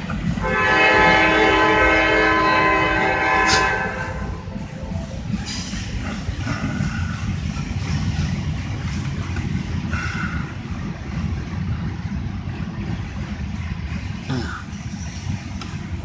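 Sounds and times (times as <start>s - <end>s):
freight train low rumble: 0.0s - 16.0s.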